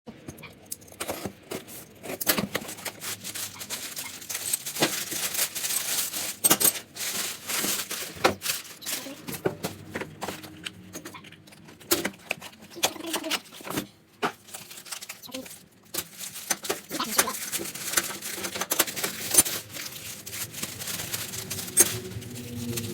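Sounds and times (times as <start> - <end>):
small metal parts clinking: 0.3 - 22.9
packaging rustling and tearing: 0.8 - 22.9.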